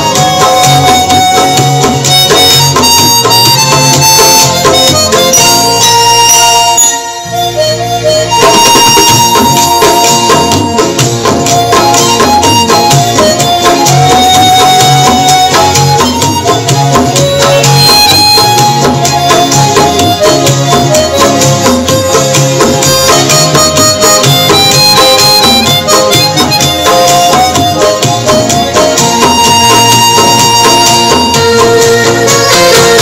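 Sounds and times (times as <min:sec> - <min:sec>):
backing track percussion beat: 0:00.0 - 0:33.0
harmonica melody: 0:00.0 - 0:33.0.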